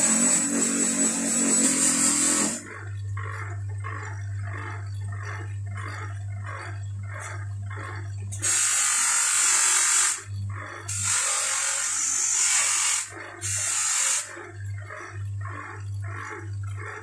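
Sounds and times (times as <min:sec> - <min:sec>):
metal grinding on abrasive wheel: 0:00.0 - 0:02.9, 0:05.1 - 0:16.3
bench grinder motor humming: 0:00.0 - 0:14.9.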